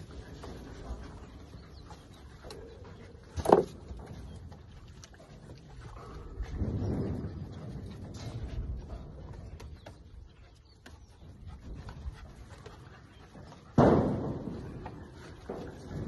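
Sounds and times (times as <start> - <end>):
puppies scuffling: 0.0 - 16.0.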